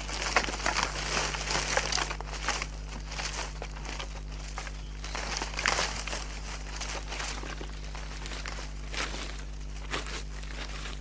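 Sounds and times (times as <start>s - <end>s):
dry leaves rustling and crackling: 0.0s - 11.0s.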